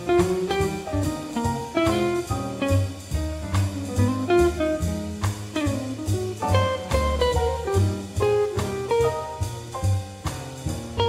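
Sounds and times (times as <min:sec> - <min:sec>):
double bass: 0:00.0 - 0:11.0
drum kit: 0:00.0 - 0:11.0
jazz guitar solo: 0:00.0 - 0:11.0.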